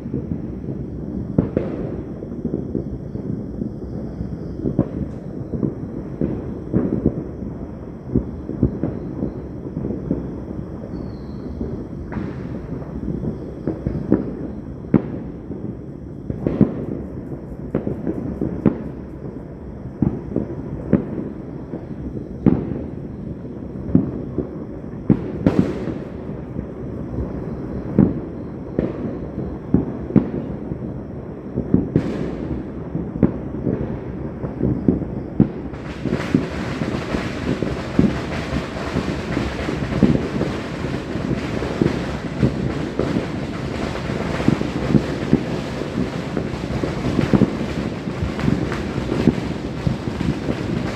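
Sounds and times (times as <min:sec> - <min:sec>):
distant fireworks rumble: 0:00.0 - 0:50.9
firecrackers popping: 0:00.0 - 0:50.9
loud firework cracks: 0:00.0 - 0:50.9.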